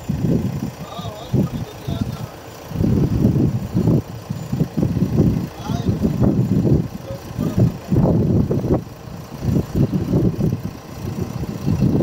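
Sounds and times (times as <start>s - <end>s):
heavy diesel engine rumble: 0.0s - 12.0s.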